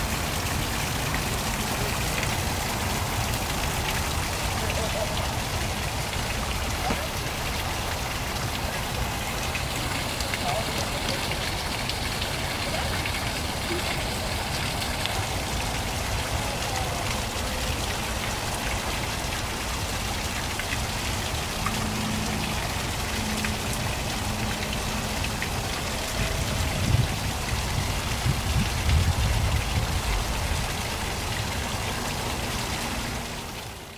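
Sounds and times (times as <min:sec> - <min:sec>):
waterfall splashing: 0:00.0 - 0:33.9.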